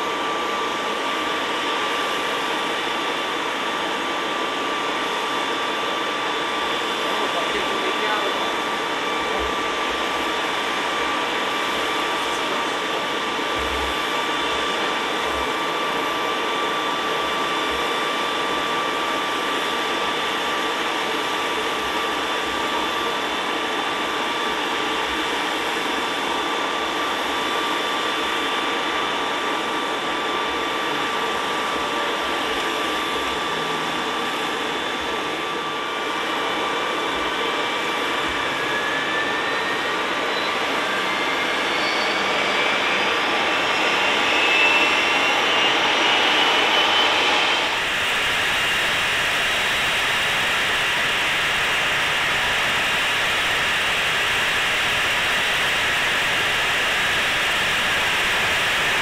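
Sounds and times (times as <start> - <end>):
high-pitched whine: 0.0 - 59.0
jet engines running: 0.0 - 59.0.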